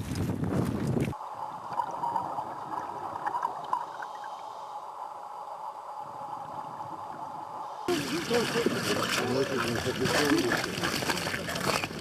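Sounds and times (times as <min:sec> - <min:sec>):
underwater bubbling and gurgling: 0:01.2 - 0:12.0.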